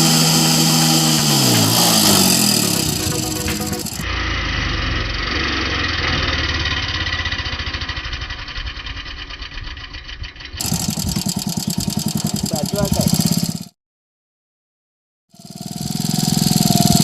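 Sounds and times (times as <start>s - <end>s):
vehicle engine running: 0.0s - 13.7s, 15.4s - 17.0s.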